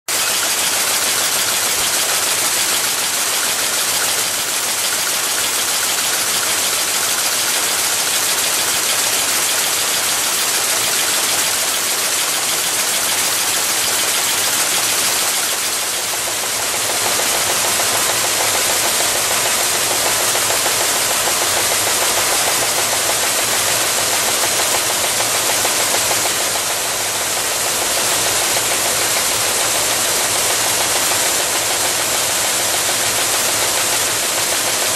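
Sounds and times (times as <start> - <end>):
welding machine running with hiss: 0.1 - 34.9.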